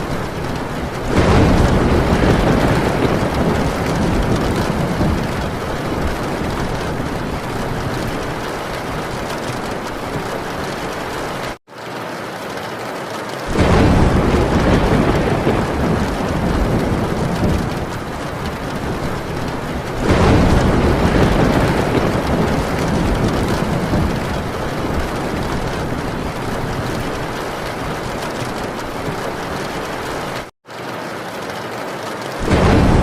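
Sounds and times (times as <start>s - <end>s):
thunder rolling: 0.0s - 11.6s, 13.5s - 30.5s, 32.4s - 33.0s
heavy rain on a tin roof: 0.0s - 33.0s.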